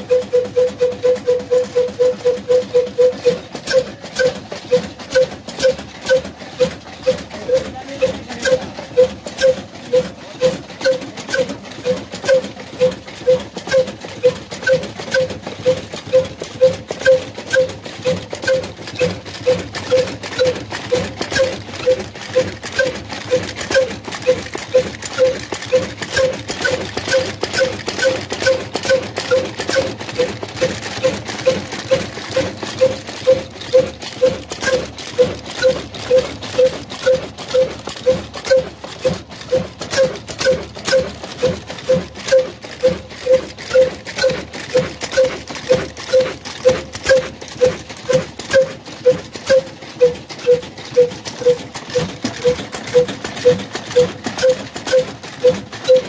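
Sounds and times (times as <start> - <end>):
diesel engine knocking beat: 0.0 - 56.0
mechanical clatter: 0.0 - 56.0.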